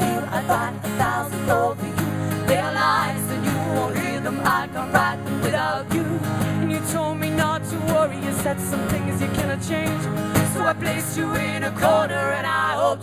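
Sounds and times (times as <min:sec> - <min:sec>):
person singing: 0:00.0 - 0:13.0
strummed acoustic guitars: 0:00.0 - 0:13.0.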